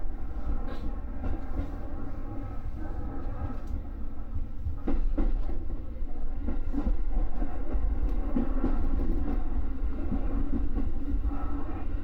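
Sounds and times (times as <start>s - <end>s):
rumble of wheels on rail: 0.0s - 12.0s.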